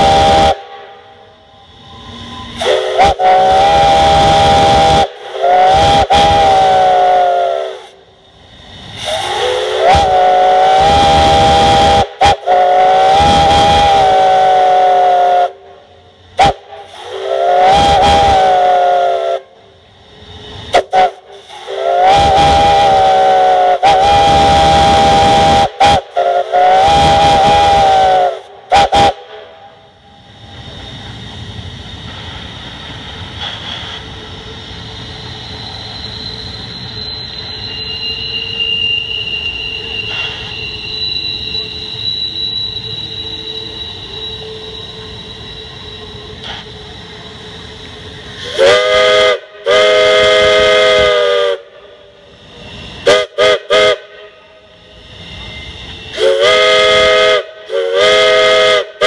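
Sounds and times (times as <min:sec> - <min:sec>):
steam hissing: 0:00.0 - 0:59.0
steam whistles blasting: 0:00.0 - 0:59.0.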